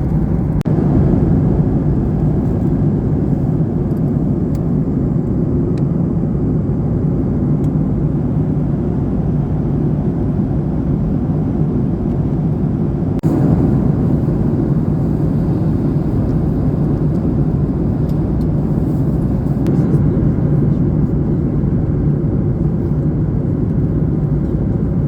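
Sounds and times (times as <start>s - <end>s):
airplane cabin engine rush: 0.0s - 25.0s.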